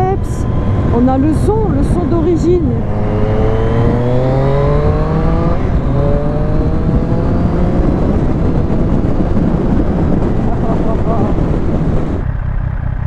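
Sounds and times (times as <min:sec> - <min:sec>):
wind rush: 0:00.0 - 0:12.8
motorcycle engine accelerating: 0:00.0 - 0:13.0.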